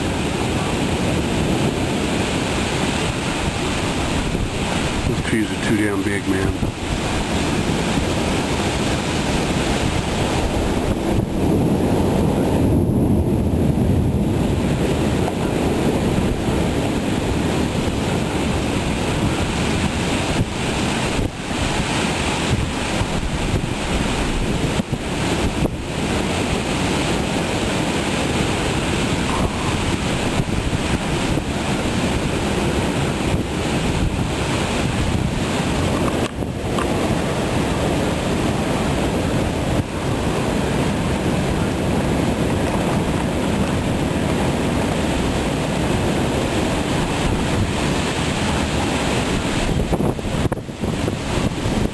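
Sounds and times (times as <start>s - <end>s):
strong wind blowing: 0.0s - 51.9s
wind gusts buffeting microphone: 0.0s - 51.9s.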